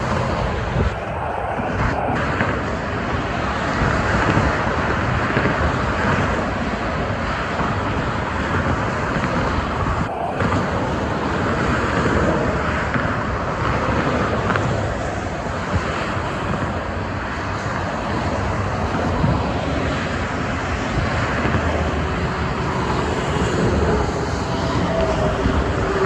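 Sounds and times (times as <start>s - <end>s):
highway traffic rushing: 0.0s - 26.0s
wind buffeting microphone: 0.0s - 26.0s.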